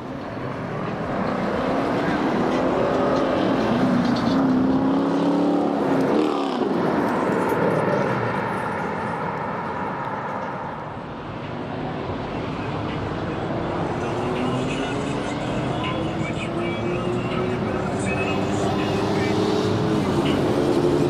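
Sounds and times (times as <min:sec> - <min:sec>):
car engines accelerating: 0:00.0 - 0:21.0.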